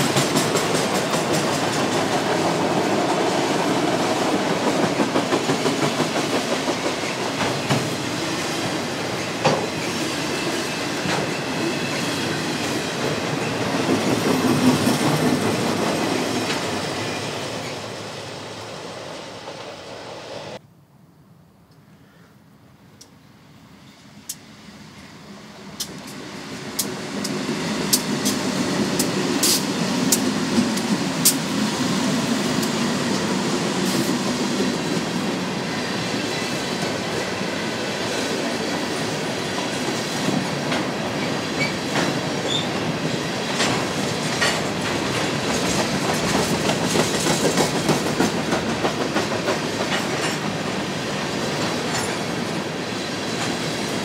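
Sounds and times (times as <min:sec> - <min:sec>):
diesel locomotive engine: 0:00.0 - 0:20.6, 0:23.0 - 0:54.0.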